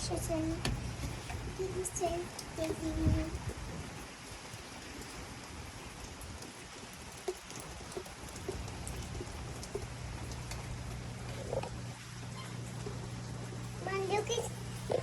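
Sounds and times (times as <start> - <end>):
drops and drips ticking: 0.0 - 15.0
steady rain falling: 0.0 - 15.0.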